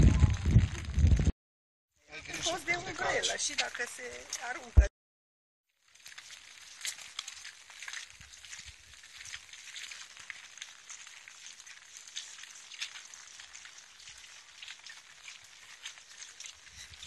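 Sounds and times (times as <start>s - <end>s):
light rain pattering: 0.0s - 1.3s, 2.1s - 4.8s, 5.8s - 17.0s.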